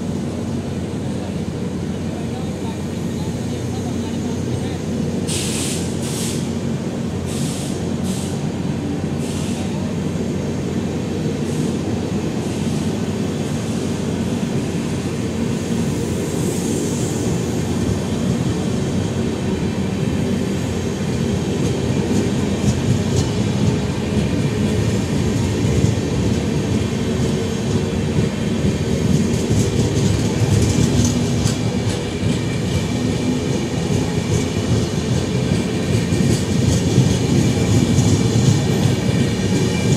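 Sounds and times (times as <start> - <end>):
train wheels clattering on rails: 2.6 - 39.9.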